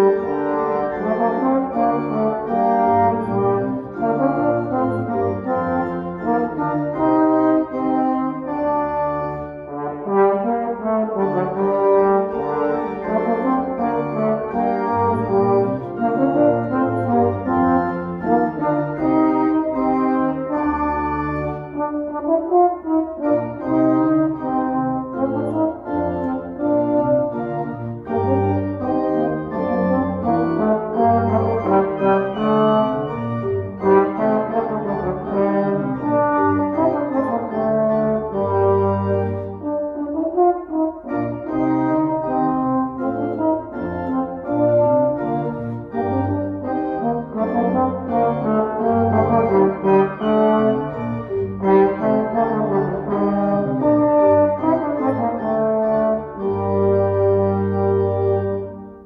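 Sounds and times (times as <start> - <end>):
pipe organ chords: 0.0 - 59.0
trombone melody: 0.0 - 59.0.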